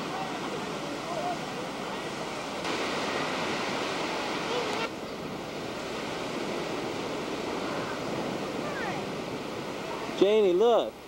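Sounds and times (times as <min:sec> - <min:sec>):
wind on microphone: 0:00.0 - 0:10.3
waves breaking on beach: 0:00.0 - 0:11.0.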